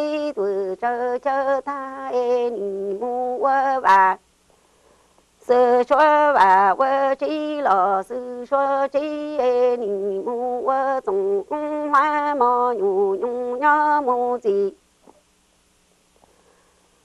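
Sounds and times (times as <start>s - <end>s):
woman singing unaccompanied: 0.0s - 4.3s, 5.4s - 14.9s.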